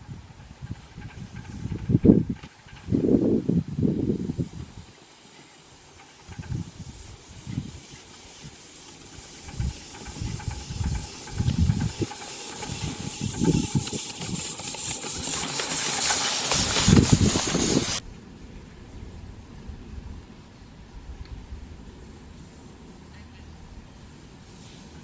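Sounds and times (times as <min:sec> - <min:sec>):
model locomotive venting steam: 0:00.0 - 0:25.0.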